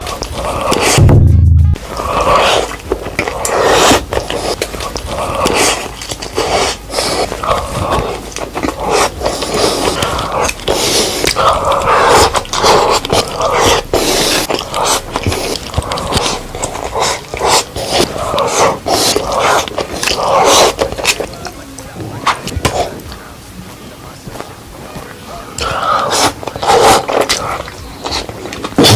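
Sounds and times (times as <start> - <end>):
wet chewing and mouth smacking: 0.0 - 1.0, 1.7 - 23.2, 24.3 - 28.9.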